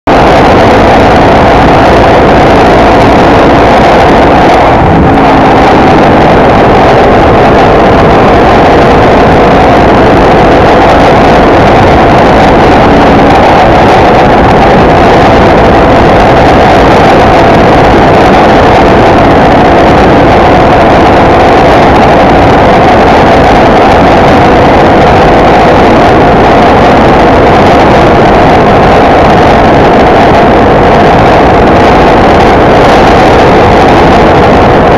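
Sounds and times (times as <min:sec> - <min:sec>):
wind rushing on microphone: 0:00.1 - 0:34.9.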